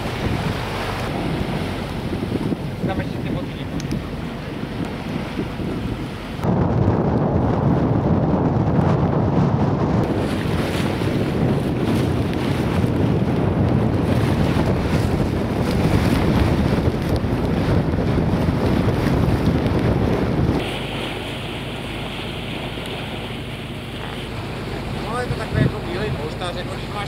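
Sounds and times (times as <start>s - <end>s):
water rushing: 0.0s - 8.0s, 10.0s - 27.0s
wind buffeting microphone: 0.0s - 27.0s.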